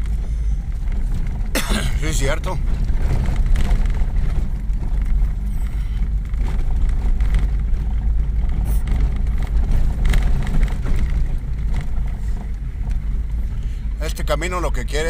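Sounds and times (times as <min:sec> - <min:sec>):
car rumbling on dirt road: 0:00.0 - 0:15.0.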